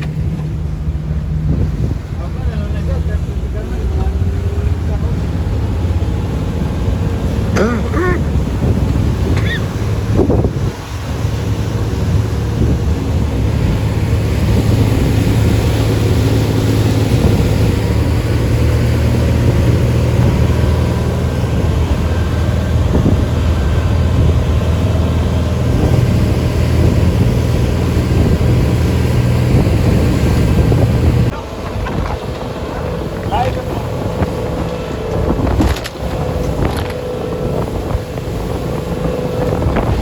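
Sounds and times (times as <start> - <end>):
boat engine running: 0.0 - 40.0
water noise: 0.0 - 40.0
wind: 0.0 - 40.0.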